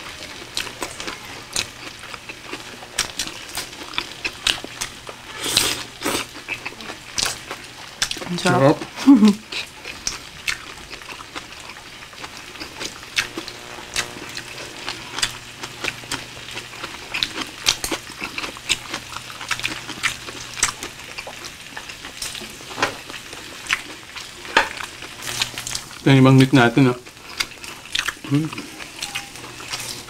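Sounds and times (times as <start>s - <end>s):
meat sizzling on a grill: 0.0s - 30.0s
chewing and mouth sounds: 0.4s - 30.0s.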